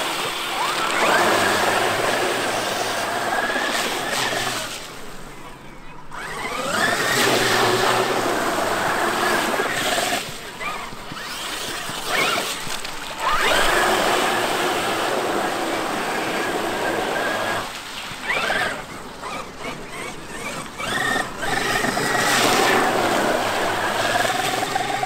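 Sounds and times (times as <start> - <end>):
electric motor whine: 0.0 - 5.3, 6.1 - 25.0.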